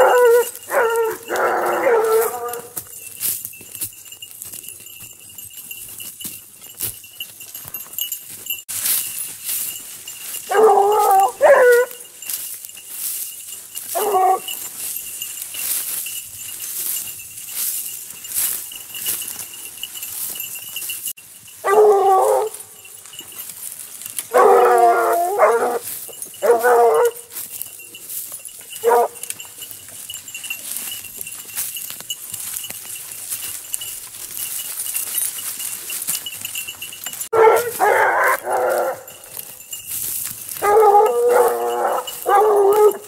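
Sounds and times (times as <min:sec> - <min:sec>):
hounds baying: 0:00.0 - 0:03.3, 0:09.7 - 0:20.8, 0:21.5 - 0:43.0
dry brush rustling: 0:00.0 - 0:43.0.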